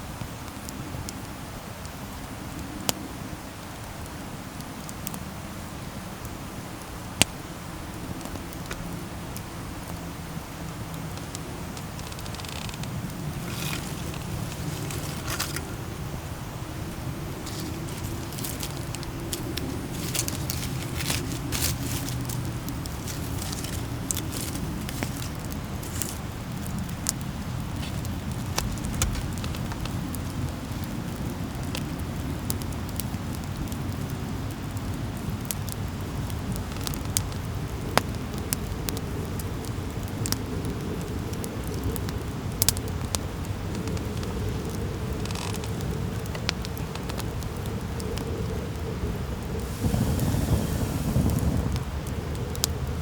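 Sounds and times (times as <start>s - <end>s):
low rumble of burning: 0.0s - 53.0s
campfire crackling and popping: 6.2s - 53.0s.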